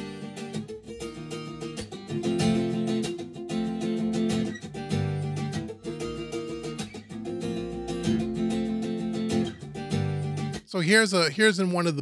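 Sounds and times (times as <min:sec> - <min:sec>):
acoustic guitar strumming chords: 0:00.0 - 0:10.6.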